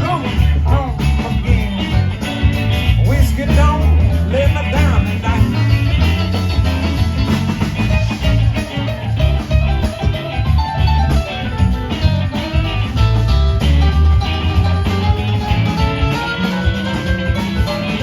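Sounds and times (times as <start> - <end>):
bass: 0.0 - 18.0
drums: 0.0 - 18.0
guitar melody: 0.0 - 18.0.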